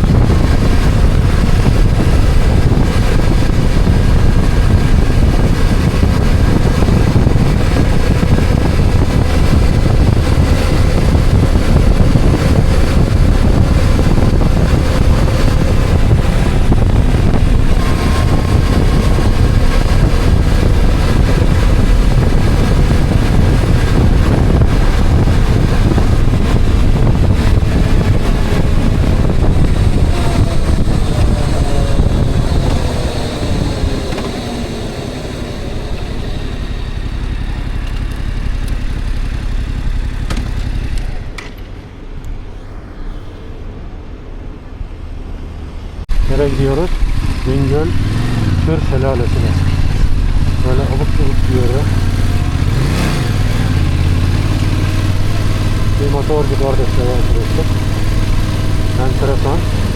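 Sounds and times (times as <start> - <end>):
wind buffeting the microphone: 0.0 - 41.4, 46.0 - 59.9
vehicle engine and road noise: 0.0 - 59.9.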